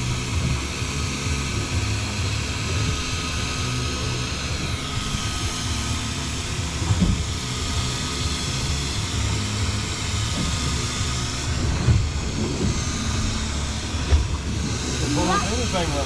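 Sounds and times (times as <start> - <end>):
boat engine running: 0.0 - 16.0
wind: 0.0 - 16.0.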